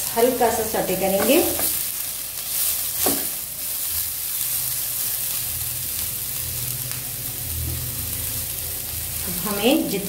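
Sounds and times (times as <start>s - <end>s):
vegetables sizzling in frying pan: 0.0s - 10.0s.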